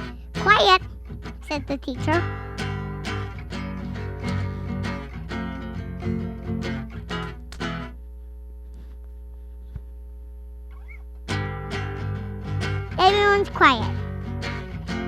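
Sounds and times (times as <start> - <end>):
guitar plucked and strummed: 0.0 - 9.0, 10.6 - 15.0
steady low hum: 0.0 - 15.0.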